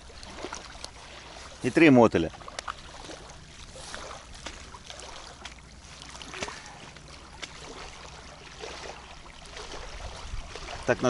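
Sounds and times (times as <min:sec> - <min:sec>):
water by the shore: 0:00.0 - 0:11.0
wind: 0:00.0 - 0:11.0.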